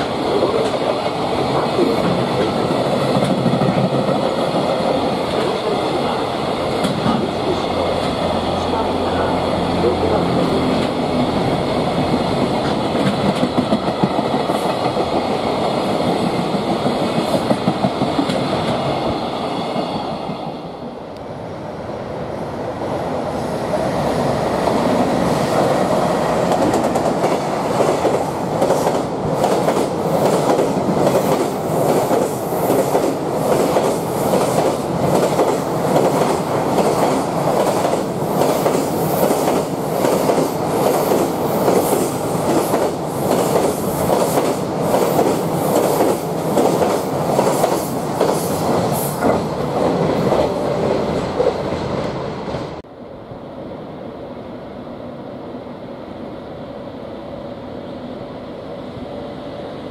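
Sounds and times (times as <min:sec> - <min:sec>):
freight train passing: 0:00.0 - 0:59.9.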